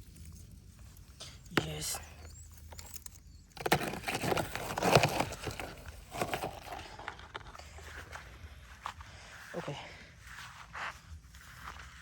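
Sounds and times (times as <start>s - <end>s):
dead wood and leaves crackling: 0.0s - 12.0s.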